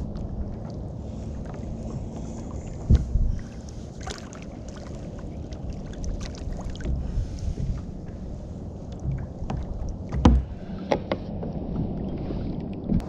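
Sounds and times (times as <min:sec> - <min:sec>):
water lapping against kayak hull: 0:00.0 - 0:13.0
wind rumble on microphone: 0:00.0 - 0:13.0.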